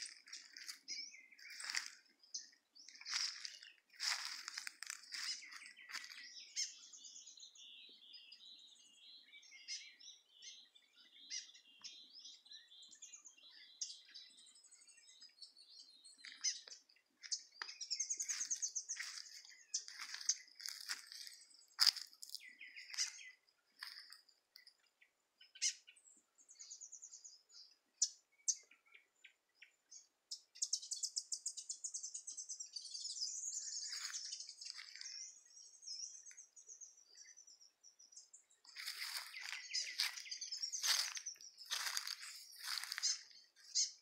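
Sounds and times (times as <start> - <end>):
birds chirping and calling: 0.0 - 44.0.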